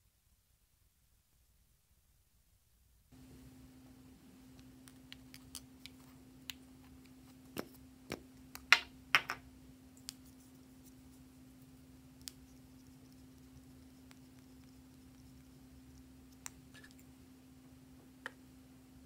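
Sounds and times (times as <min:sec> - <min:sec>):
steady low hum: 0:03.1 - 0:19.0.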